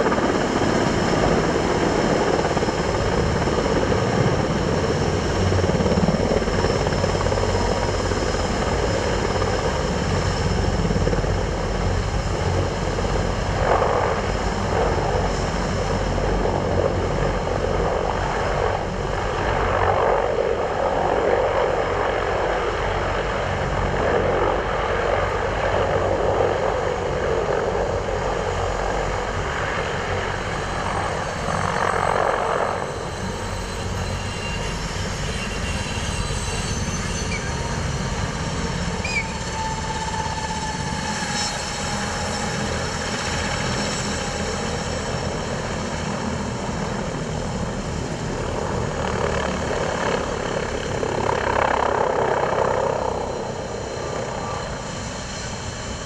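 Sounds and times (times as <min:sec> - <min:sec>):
helicopter rotor drone: 0:00.0 - 0:56.0
turbine whine: 0:00.0 - 0:56.0.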